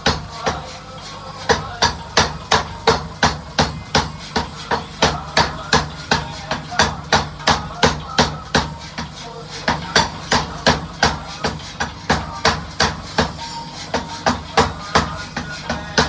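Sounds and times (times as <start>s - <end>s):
power hammer striking iron rod: 0.0s - 0.7s, 1.5s - 9.1s, 9.7s - 16.0s.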